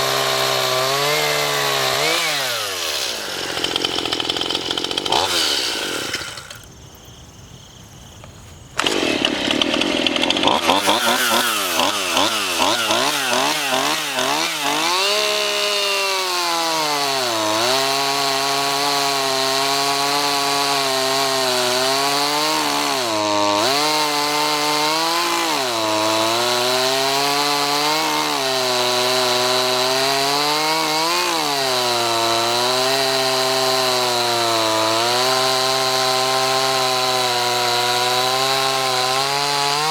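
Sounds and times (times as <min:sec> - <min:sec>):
chainsaw cutting wood: 0:00.0 - 0:06.8, 0:08.8 - 0:39.9.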